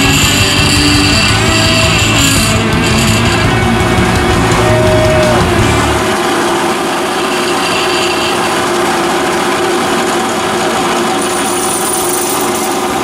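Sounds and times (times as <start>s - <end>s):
bench grinder grinding: 0.0s - 13.0s
thin high whine: 0.0s - 13.0s.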